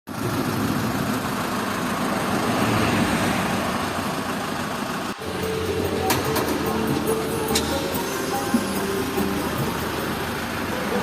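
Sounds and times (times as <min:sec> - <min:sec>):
engine idling: 0:00.1 - 0:11.0.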